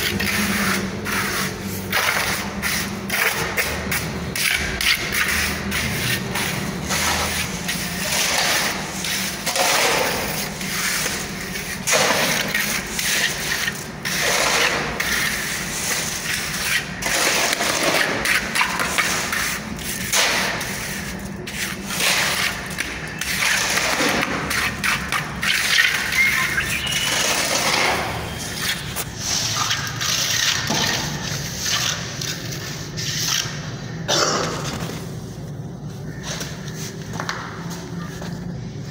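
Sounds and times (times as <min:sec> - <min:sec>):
trowel scraping plaster: 0:00.0 - 0:33.9.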